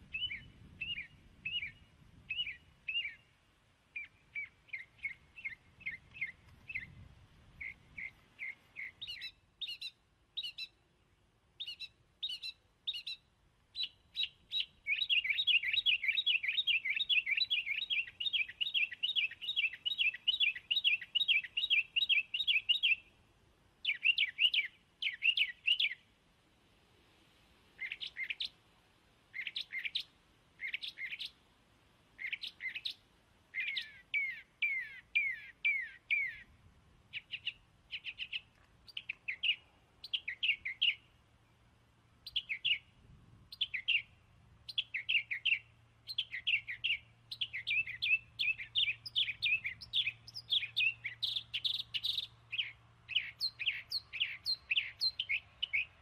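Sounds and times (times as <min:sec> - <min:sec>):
bird chirping: 0:00.0 - 0:10.8, 0:11.6 - 0:23.2, 0:23.8 - 0:26.1, 0:27.8 - 0:28.6, 0:29.3 - 0:31.4, 0:32.1 - 0:56.0.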